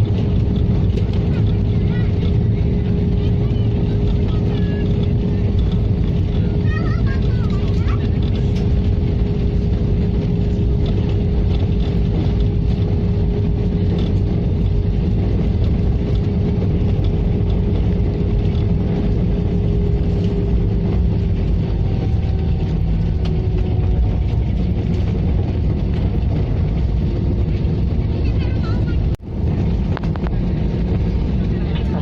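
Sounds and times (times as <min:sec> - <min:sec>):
jet engines in cabin: 0:00.0 - 0:32.0.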